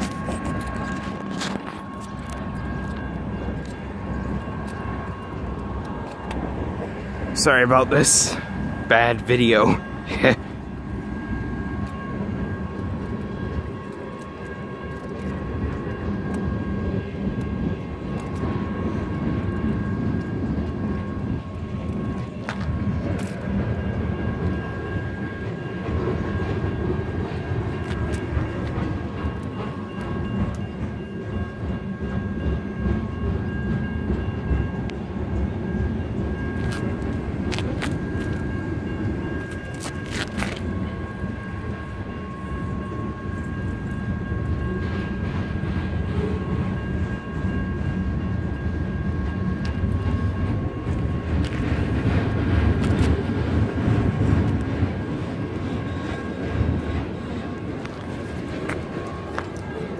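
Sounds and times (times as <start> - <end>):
freight train rumble and rail clatter: 0.0 - 59.9
high ringing tone: 0.0 - 59.9.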